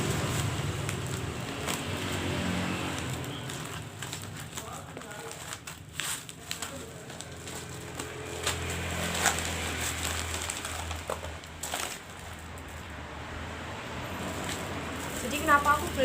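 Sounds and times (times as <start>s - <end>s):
packaging rustling: 0.0s - 12.9s, 14.2s - 16.0s.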